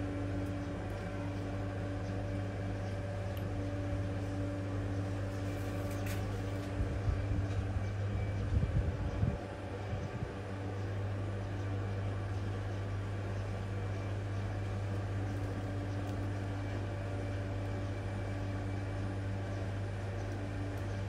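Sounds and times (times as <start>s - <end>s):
low machine hum: 0.0s - 21.0s
noisy whir: 0.0s - 21.0s.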